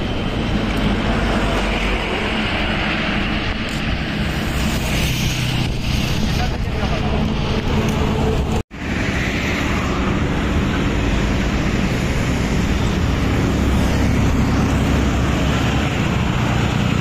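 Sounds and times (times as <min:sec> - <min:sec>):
highway traffic rumble: 0:00.0 - 0:17.0.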